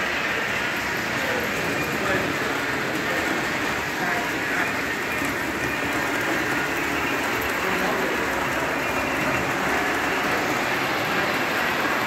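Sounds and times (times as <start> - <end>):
model train rolling rumble: 0.0 - 12.0.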